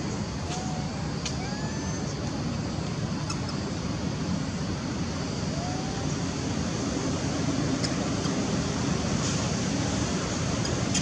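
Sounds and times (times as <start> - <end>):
steady outdoor rumble: 0.0 - 11.0.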